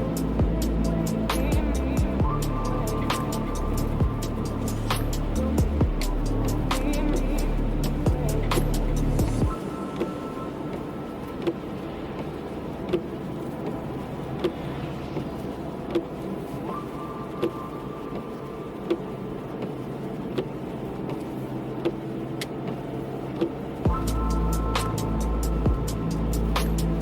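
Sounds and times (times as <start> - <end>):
road and rain noise: 0.0 - 27.0.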